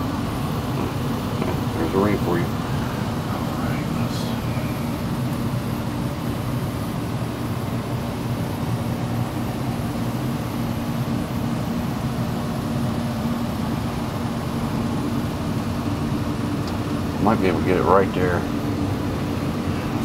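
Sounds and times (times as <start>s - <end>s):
furnace blower humming: 0.0s - 20.0s.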